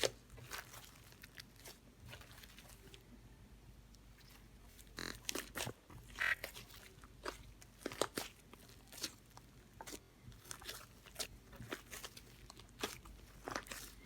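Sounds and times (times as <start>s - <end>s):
crunching of chewing: 0.0s - 3.0s, 4.2s - 14.0s.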